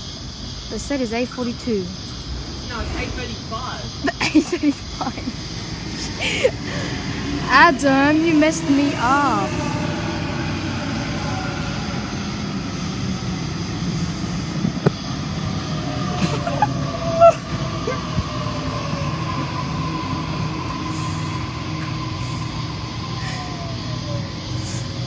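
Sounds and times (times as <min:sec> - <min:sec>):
electric train motor whine: 0:00.0 - 0:25.0
train brakes squeaking: 0:00.7 - 0:25.0.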